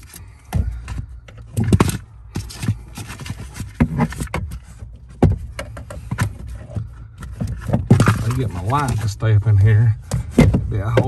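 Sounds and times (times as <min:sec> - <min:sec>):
clicks and knocks on plastic parts: 0:00.0 - 0:09.0, 0:10.0 - 0:11.0.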